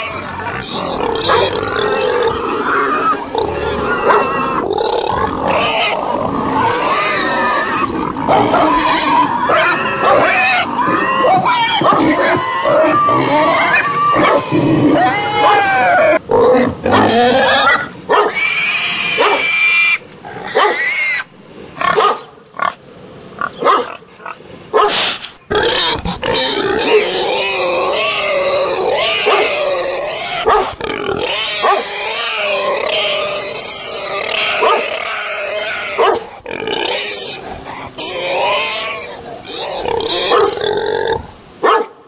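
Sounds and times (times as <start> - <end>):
pigs squealing: 0.0 - 22.8, 23.4 - 41.2.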